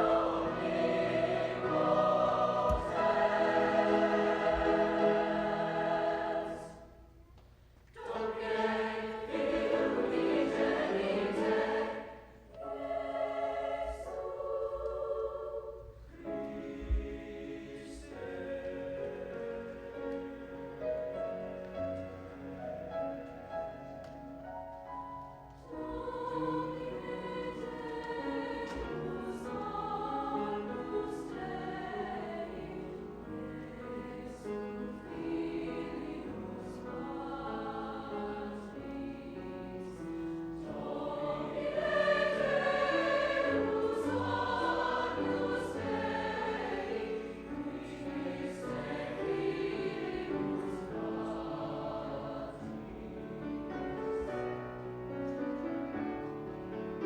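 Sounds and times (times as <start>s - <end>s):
choir singing: 0.0s - 7.1s, 7.9s - 24.2s, 25.2s - 57.0s.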